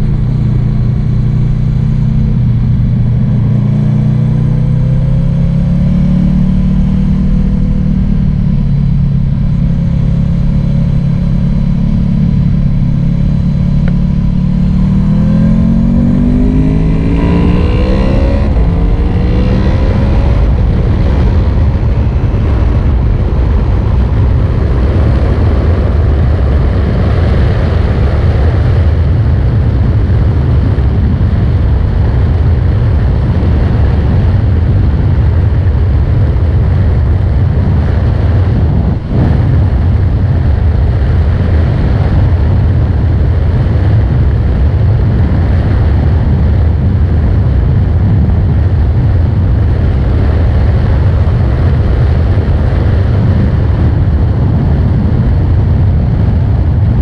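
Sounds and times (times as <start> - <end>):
motorcycle engine cruising: 0.0 - 57.0
wind rush over microphone: 0.0 - 57.0.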